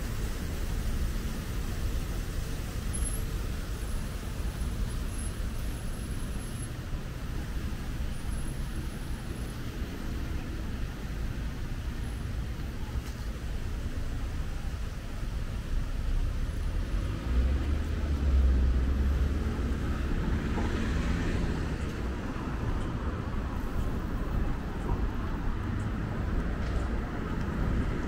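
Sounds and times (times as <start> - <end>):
cars passing on street: 0.0 - 28.0.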